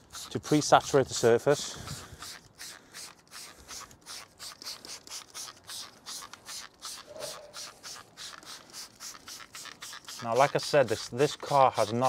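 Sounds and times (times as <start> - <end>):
spray bottle hissing sprays: 0.0 - 12.0.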